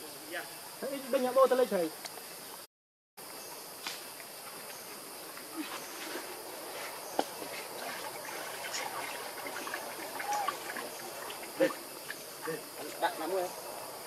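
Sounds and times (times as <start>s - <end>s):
insects hissing: 0.0s - 14.0s.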